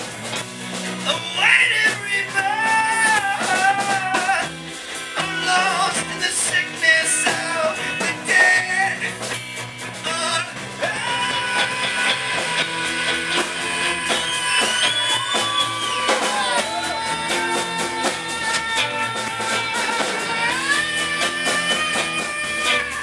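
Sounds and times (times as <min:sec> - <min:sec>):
rock band playing: 0:00.0 - 0:23.0.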